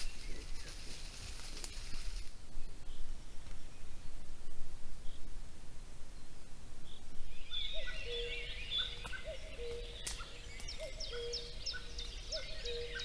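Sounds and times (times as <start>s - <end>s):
birds chirping and trilling: 0.0s - 5.3s, 6.1s - 13.0s.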